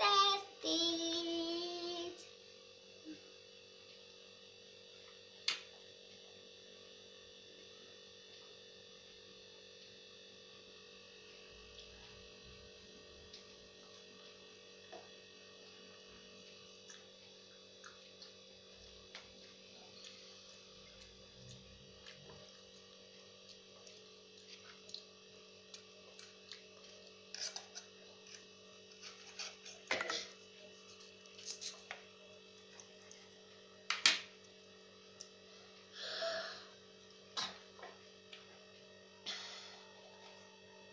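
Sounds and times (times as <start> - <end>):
faint room hum: 0.0 - 40.9.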